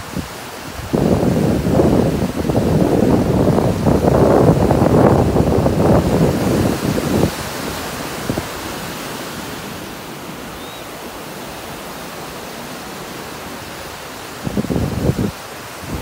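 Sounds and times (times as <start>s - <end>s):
surf washing up a beach: 0.0s - 16.0s
wind buffeting microphone: 0.0s - 16.0s.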